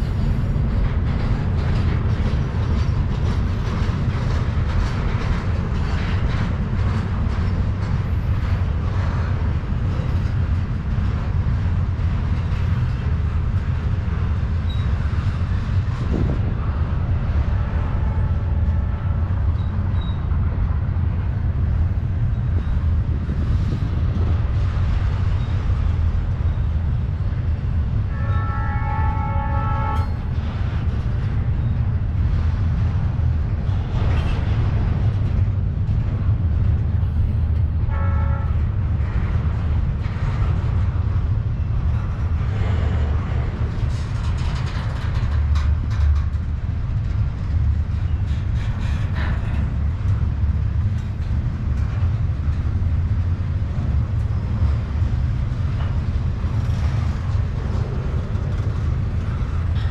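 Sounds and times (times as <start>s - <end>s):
rattles and clanks: 0.0s - 28.1s, 29.8s - 59.9s
freight train wheels rumbling: 0.0s - 59.9s.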